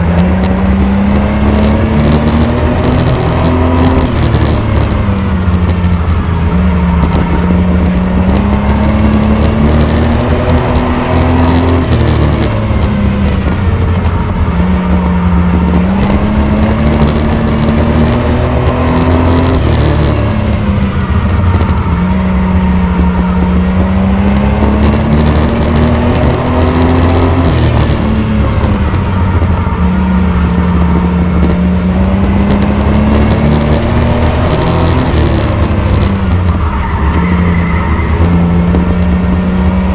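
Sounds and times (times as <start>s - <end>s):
racing truck engine running hard: 0.0s - 39.9s.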